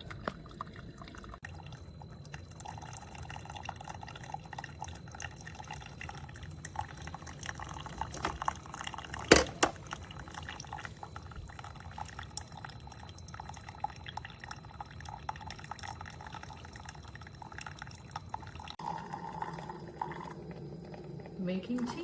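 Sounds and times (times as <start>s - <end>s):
liquid dripping into a mug: 0.0s - 21.9s
coffee maker dispensing water: 0.0s - 22.0s
low steady hum: 0.0s - 22.0s.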